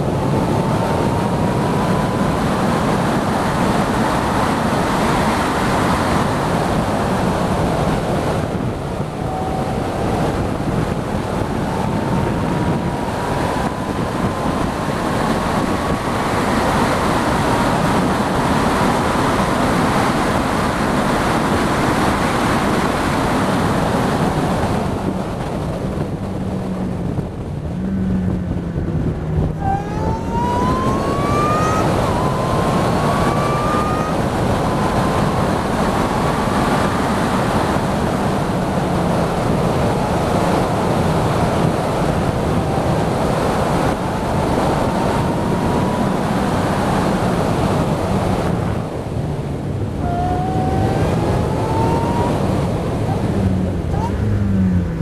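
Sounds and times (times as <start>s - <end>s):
car engine whining: 0.0s - 55.0s
wind rushing: 0.0s - 55.0s.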